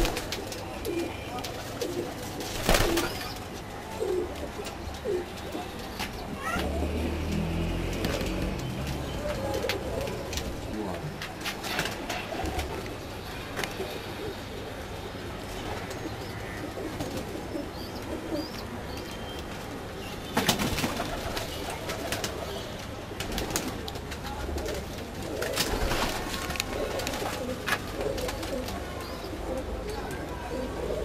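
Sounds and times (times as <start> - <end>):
pigeons cooing: 0.0 - 11.0, 11.6 - 19.0, 24.4 - 31.0.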